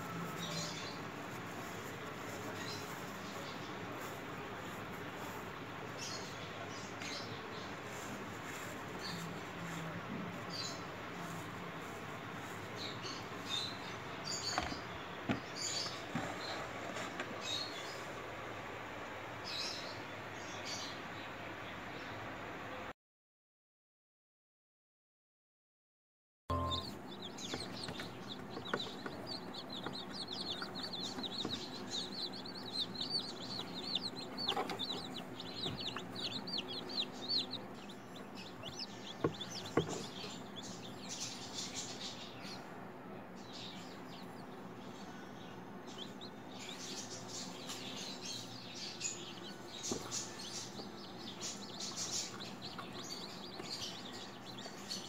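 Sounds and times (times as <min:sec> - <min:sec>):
chick peeping: 0:00.0 - 0:18.1, 0:26.5 - 0:42.7, 0:43.4 - 0:55.0.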